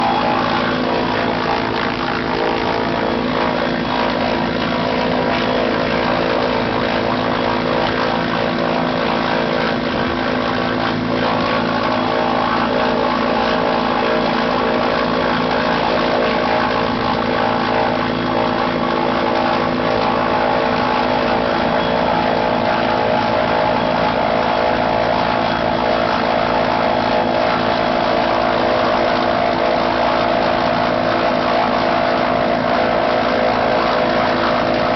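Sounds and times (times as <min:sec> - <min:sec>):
helicopter rotor and engine: 0:00.0 - 0:34.9.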